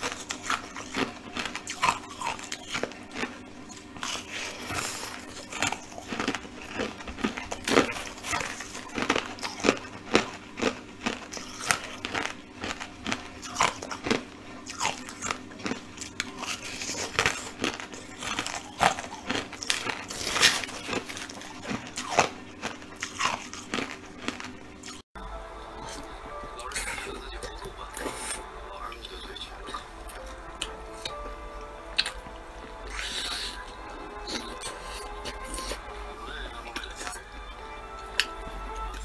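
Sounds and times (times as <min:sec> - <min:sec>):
ice crunching between teeth: 0:00.0 - 0:25.0, 0:26.6 - 0:39.0
faint steady hum: 0:00.0 - 0:39.0.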